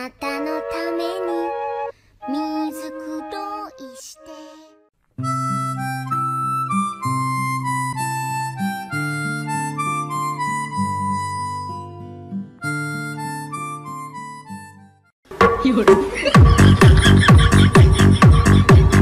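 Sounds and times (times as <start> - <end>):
instrumental background music: 0.0 - 19.0.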